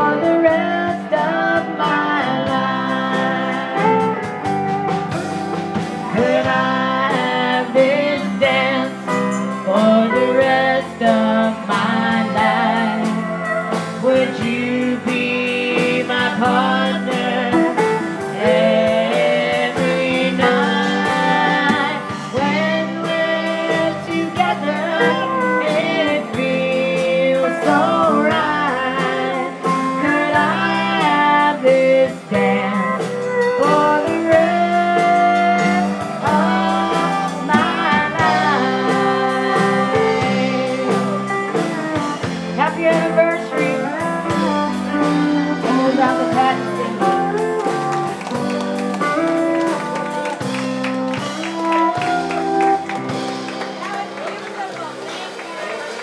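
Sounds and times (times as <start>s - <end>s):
country band playing waltz: 0.0s - 56.0s
steady guitar accompaniment: 0.0s - 56.0s.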